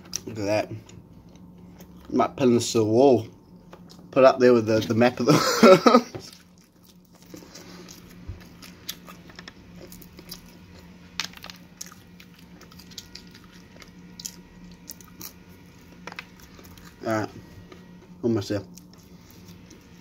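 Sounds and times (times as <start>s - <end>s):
person chewing pizza crust: 0.0s - 2.2s, 3.4s - 4.2s, 6.1s - 20.0s
faint low hum: 0.0s - 20.0s.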